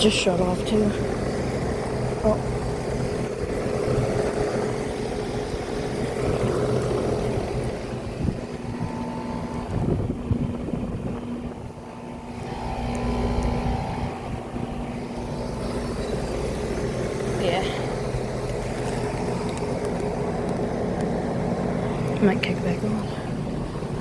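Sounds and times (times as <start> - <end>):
air conditioner units humming: 0.0 - 24.0.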